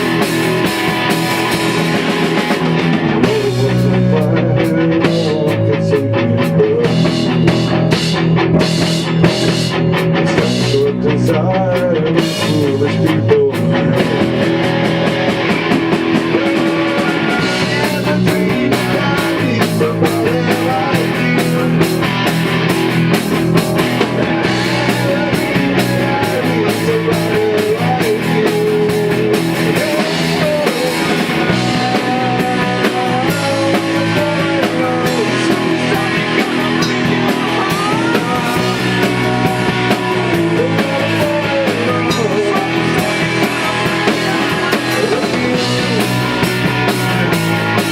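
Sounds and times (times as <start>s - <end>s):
rock band playing: 0.0s - 47.9s.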